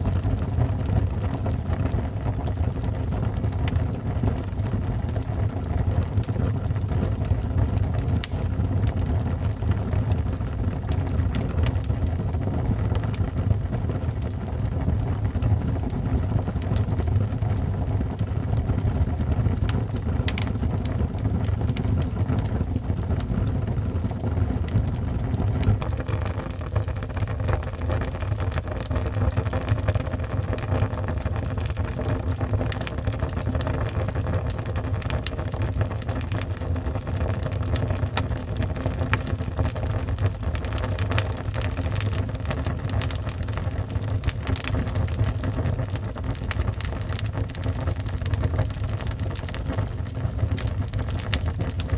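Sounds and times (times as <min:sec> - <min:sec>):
fireplace fire rumbling: 0:00.0 - 0:51.9
wood fire crackling and popping: 0:00.0 - 0:51.9.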